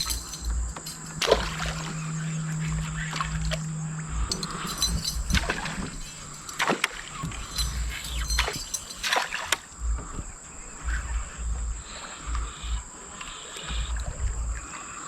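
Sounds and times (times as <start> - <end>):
water splashing against boat: 0.0 - 15.0.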